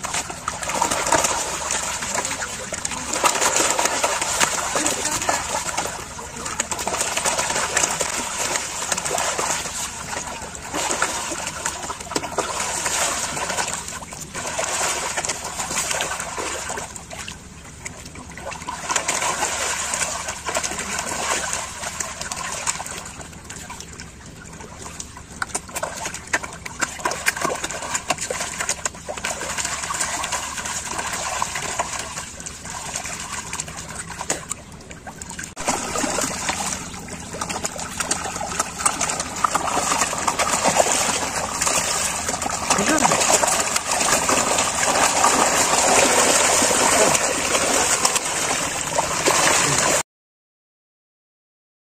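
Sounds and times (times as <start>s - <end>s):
fish thrashing and splashing water: 0.0s - 50.0s.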